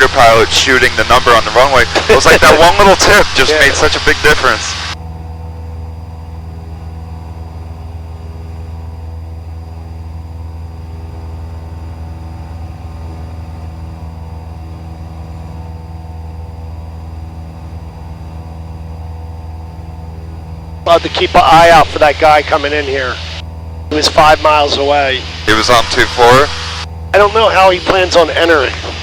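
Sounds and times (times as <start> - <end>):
propeller plane engine droning: 0.0 - 29.0.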